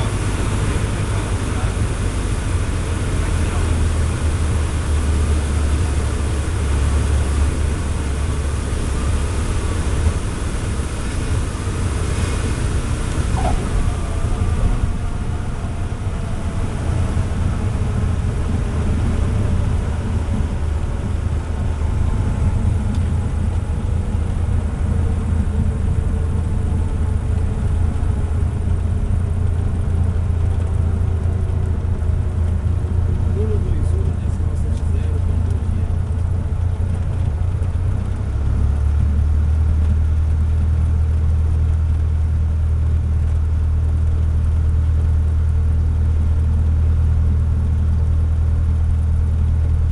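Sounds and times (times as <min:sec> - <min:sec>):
small plane engine droning: 0:00.0 - 0:49.9.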